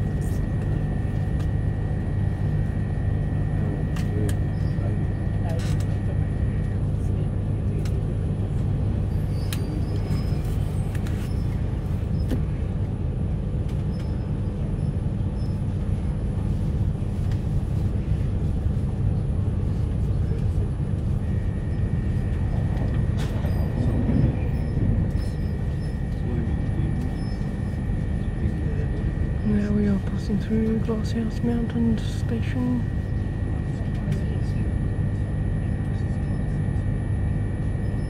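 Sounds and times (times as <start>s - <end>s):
train carriage rumble and hum: 0.0s - 38.0s.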